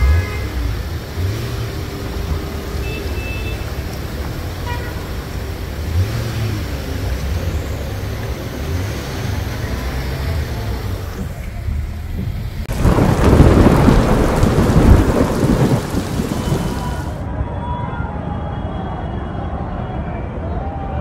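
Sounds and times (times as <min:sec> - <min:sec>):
tyres running through water: 0:00.0 - 0:17.2
vehicle engines rumbling: 0:00.0 - 0:17.5.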